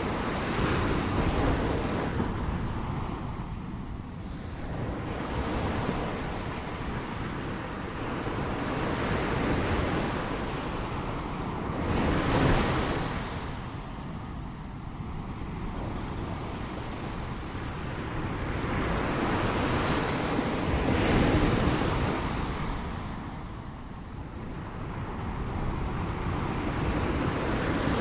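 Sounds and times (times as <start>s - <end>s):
wind: 0.0s - 28.0s.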